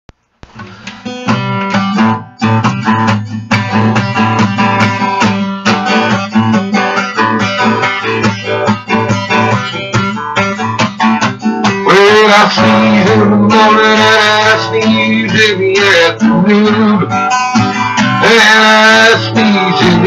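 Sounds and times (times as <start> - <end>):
guitar strummed: 0.4 - 20.0.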